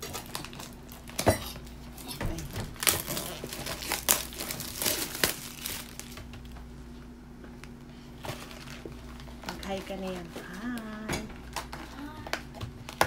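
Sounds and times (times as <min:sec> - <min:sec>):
foil sachet crinkling: 0:00.0 - 0:06.4, 0:08.2 - 0:13.0.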